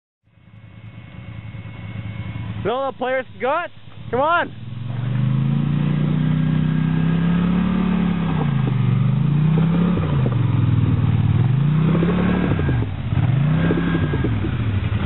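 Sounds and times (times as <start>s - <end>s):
atv engine revving: 0.5s - 15.0s.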